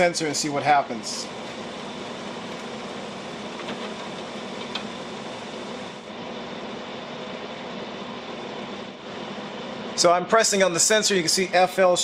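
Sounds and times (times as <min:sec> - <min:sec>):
air conditioner hum and whir: 0:00.0 - 0:12.0.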